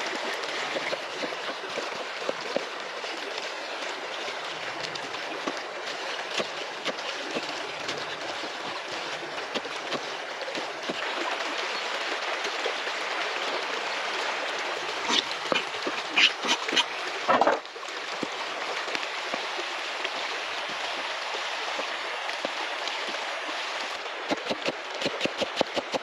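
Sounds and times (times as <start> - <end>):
stream running: 0.0 - 26.0.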